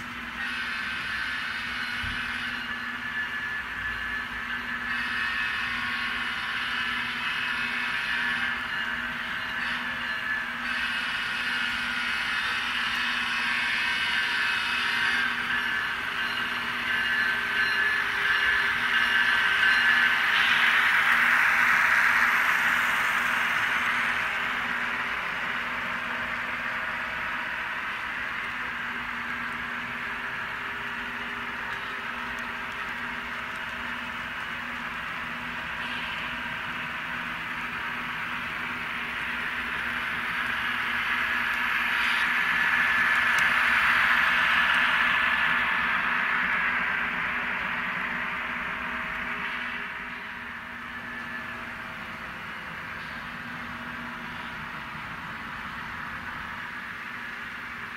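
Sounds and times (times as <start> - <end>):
model train running on track: 0.0 - 57.9.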